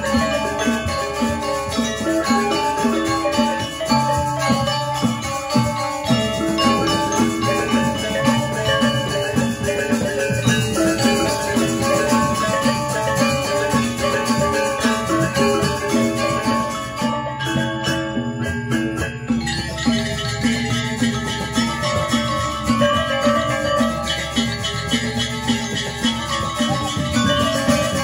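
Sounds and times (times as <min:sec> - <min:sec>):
metallophones ringing: 0:00.0 - 0:28.0.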